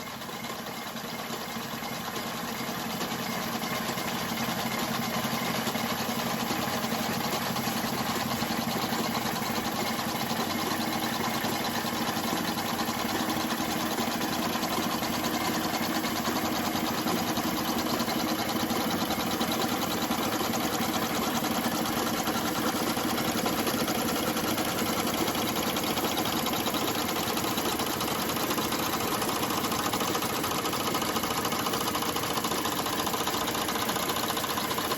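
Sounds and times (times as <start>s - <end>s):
model steam engine running: 0.0s - 34.9s
mechanical clatter: 3.2s - 34.9s.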